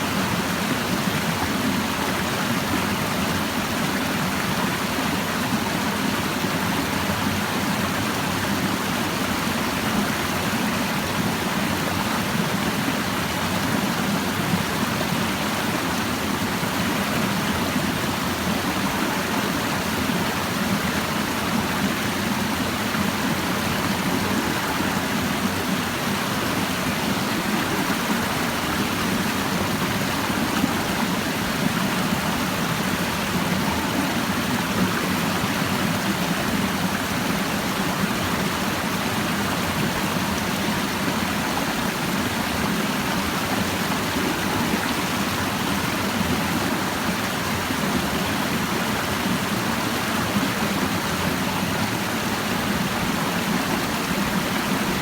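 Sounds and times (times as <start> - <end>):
stream babbling over rocks: 0.0 - 55.0.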